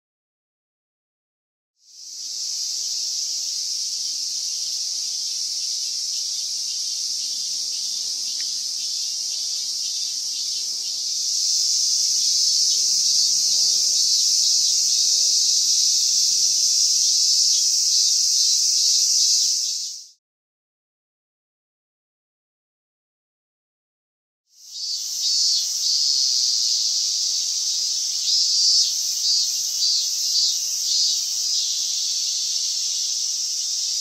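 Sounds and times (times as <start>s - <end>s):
cicadas buzzing: 1.9s - 20.2s, 24.6s - 34.0s.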